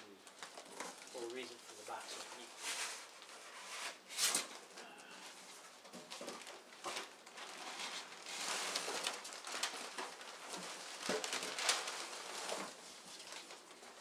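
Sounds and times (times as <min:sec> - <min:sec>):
paper rustling and crinkling: 0:00.1 - 0:14.0.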